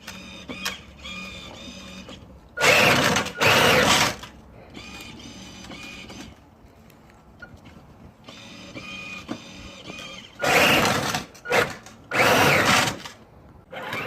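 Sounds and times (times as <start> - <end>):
toy car electric motors whining: 0.0 - 6.4, 8.2 - 14.0.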